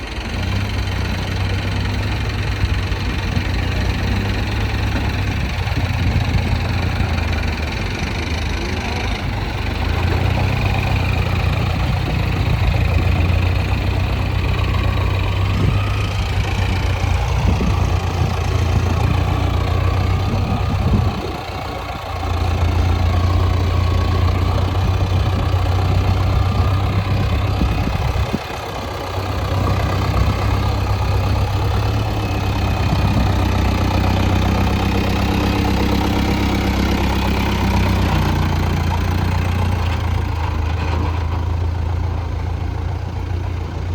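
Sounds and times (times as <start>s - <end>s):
diesel engines humming: 0.0s - 43.9s.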